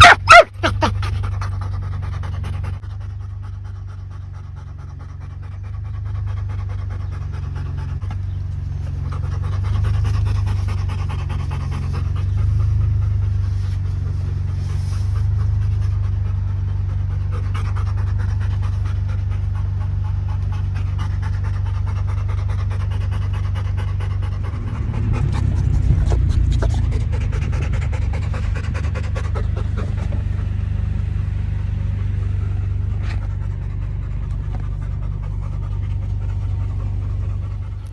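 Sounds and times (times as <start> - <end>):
dog panting: 0.0 - 37.9
low rumble: 0.0 - 37.9.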